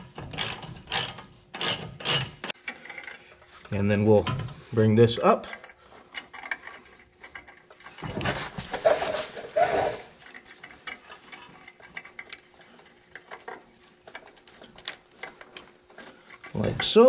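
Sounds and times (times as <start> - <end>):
metal scraping on metal: 0.0 - 17.0.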